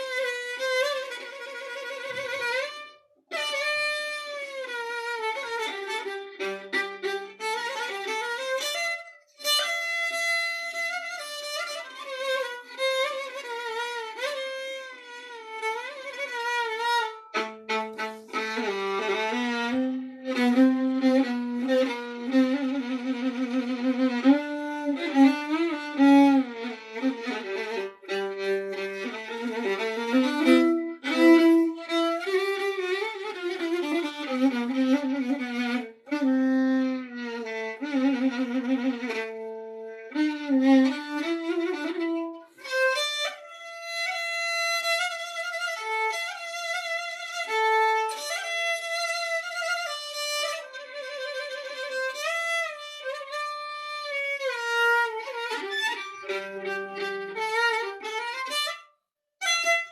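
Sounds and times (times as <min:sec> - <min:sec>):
solo violin slow melody: 0:00.0 - 0:59.9.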